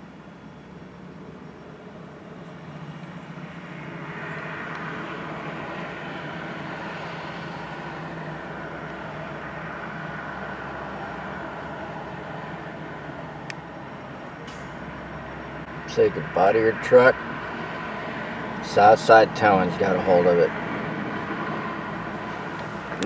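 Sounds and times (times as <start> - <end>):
rushing vehicle noise: 0.0 - 23.0
steady engine hum: 0.0 - 23.0
street traffic: 0.0 - 23.0.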